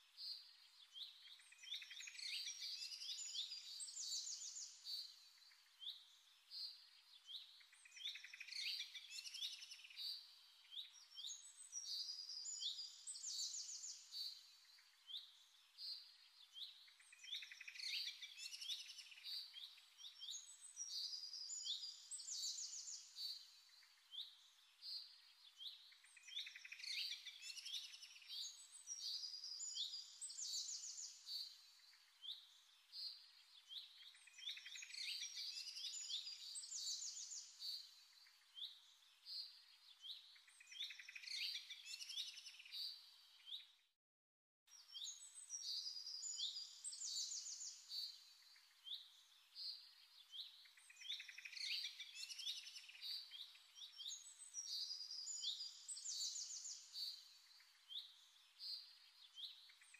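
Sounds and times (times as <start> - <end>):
small birds chirping: 0.0 - 43.9, 44.7 - 59.9.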